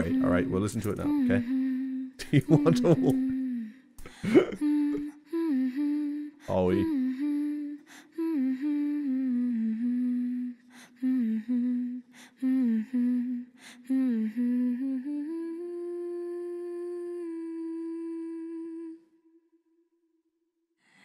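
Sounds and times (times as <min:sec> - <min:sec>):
person humming a melody: 0:00.0 - 0:19.1.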